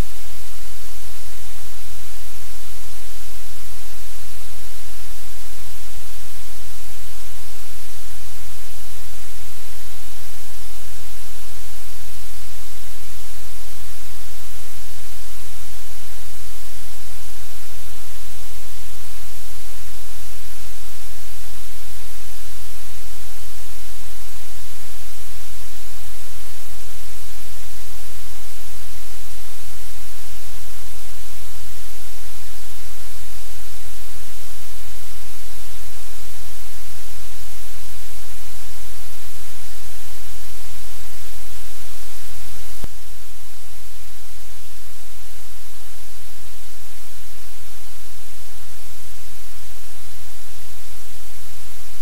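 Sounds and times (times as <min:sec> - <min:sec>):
low electrical hum: 0:00.0 - 0:52.0
steady static hiss: 0:00.0 - 0:52.0.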